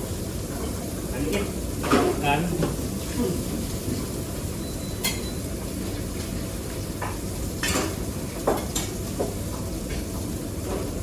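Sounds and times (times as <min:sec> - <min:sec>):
food sizzling: 0:00.0 - 0:11.0
low rumble of kitchen noise: 0:00.0 - 0:11.0.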